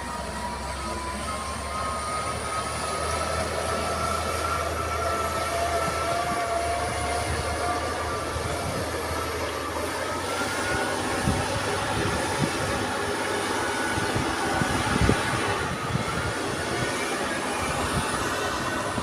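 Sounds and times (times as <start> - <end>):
truck engine droning: 0.0 - 19.0.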